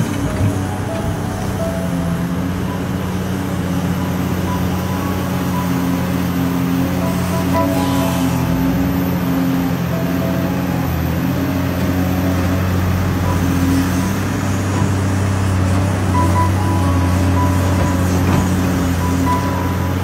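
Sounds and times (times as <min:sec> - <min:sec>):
heavy diesel machinery droning: 0:00.0 - 0:20.0.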